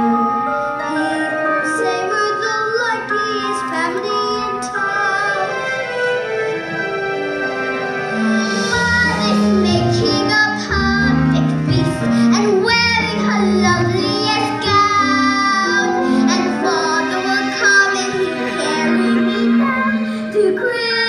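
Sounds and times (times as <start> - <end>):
instrumental accompaniment: 0.0 - 21.0
child singing: 0.8 - 5.9, 8.6 - 21.0.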